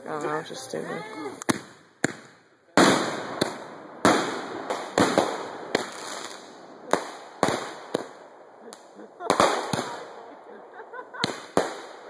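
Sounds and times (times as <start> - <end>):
fireworks bursting: 0.4 - 12.0.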